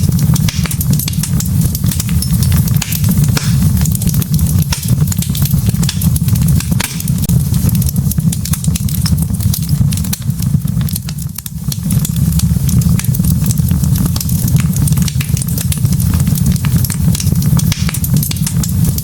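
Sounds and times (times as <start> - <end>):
logs crackling in a fireplace: 0.0 - 19.0.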